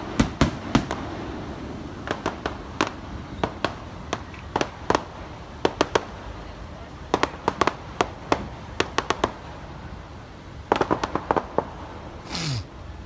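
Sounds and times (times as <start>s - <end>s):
distant fireworks crackling: 0.0s - 13.0s.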